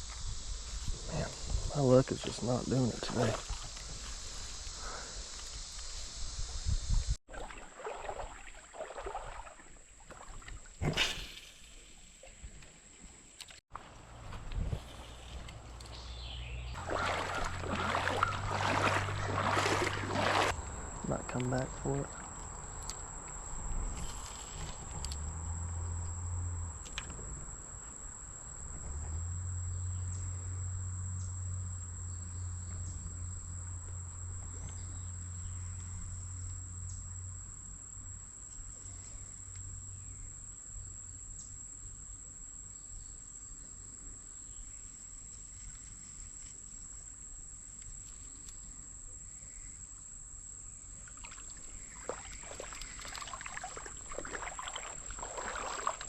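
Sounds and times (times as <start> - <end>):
insects trilling: 0.0 - 10.6, 14.9 - 56.0.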